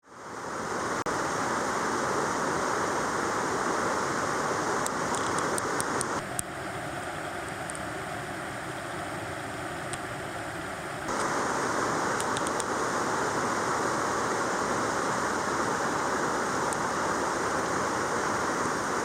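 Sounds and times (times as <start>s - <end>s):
rushing water hiss: 0.0s - 19.0s.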